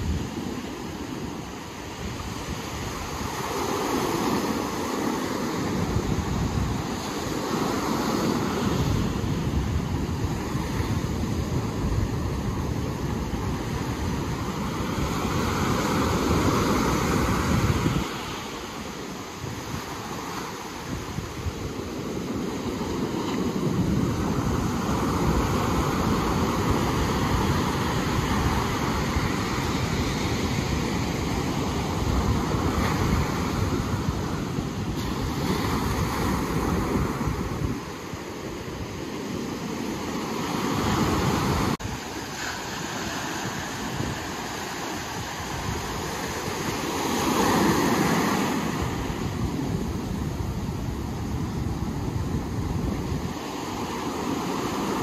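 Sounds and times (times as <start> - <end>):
waves breaking: 0.0 - 55.0
wind rumbling on microphone: 0.0 - 55.0.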